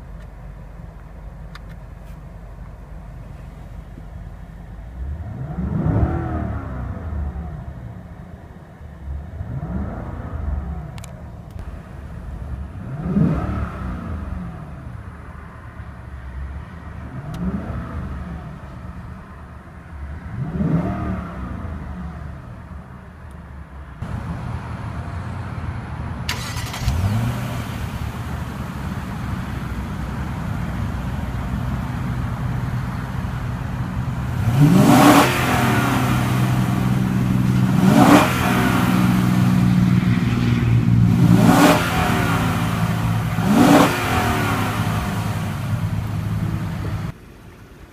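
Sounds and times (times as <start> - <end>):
car engine revving: 0.0 - 15.6, 16.7 - 19.4, 20.0 - 23.0, 24.0 - 47.2.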